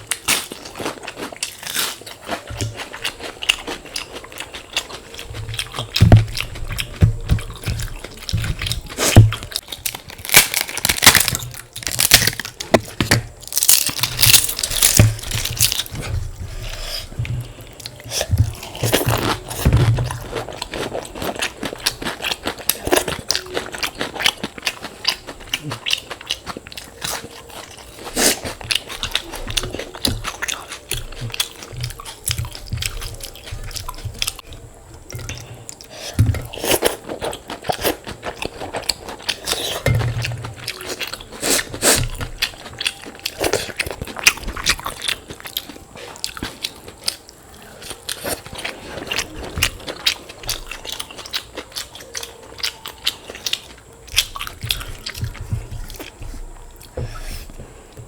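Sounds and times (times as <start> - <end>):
crunching and chewing food: 0.0 - 58.0.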